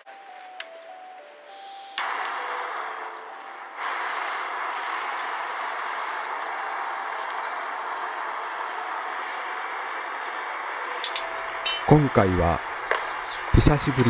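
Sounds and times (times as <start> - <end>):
steady rushing noise: 2.0 - 14.0.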